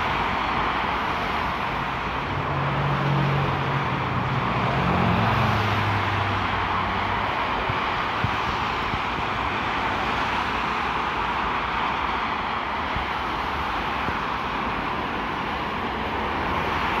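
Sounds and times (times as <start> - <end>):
motorway traffic: 0.0 - 17.0.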